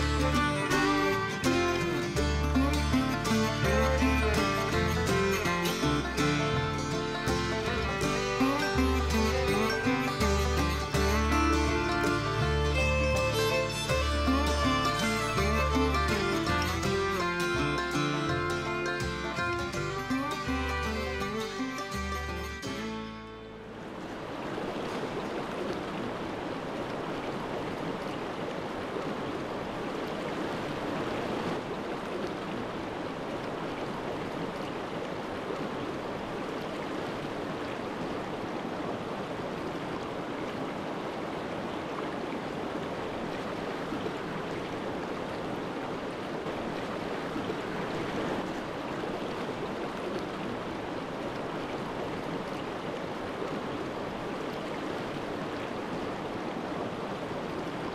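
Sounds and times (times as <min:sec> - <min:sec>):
creek running over rocks: 0:00.0 - 0:57.9.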